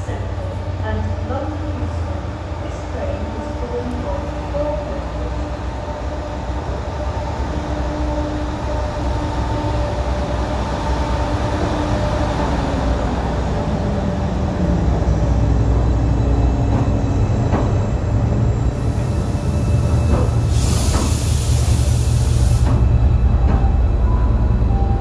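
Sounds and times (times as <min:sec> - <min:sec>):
locomotive rumble: 0:00.0 - 0:25.0.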